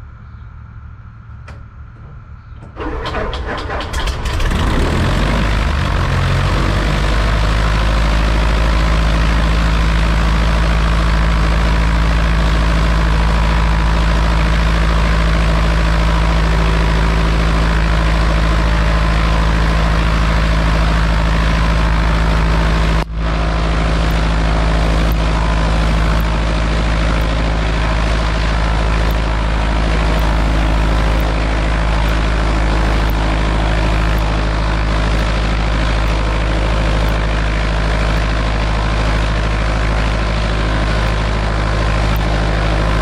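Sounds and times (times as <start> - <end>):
aircraft engine starting and idling: 0.0 - 43.0.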